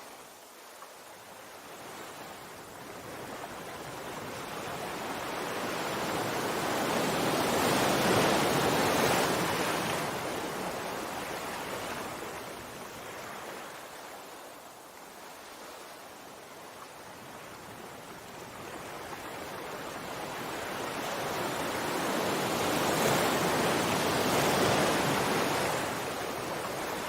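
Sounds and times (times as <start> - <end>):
sea wave surging and washing back: 1.3 - 27.0.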